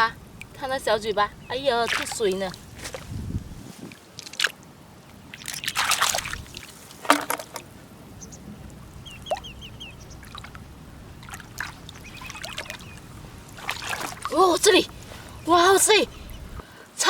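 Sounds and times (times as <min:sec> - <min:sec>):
water splashes: 0:00.0 - 0:16.4
water sloshing over wet sand: 0:00.2 - 0:07.8, 0:08.7 - 0:16.1.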